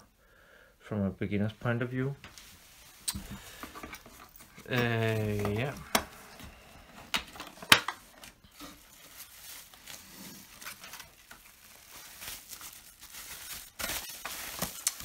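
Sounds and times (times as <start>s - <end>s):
bubble-wrap bag crinkling: 2.3s - 15.0s.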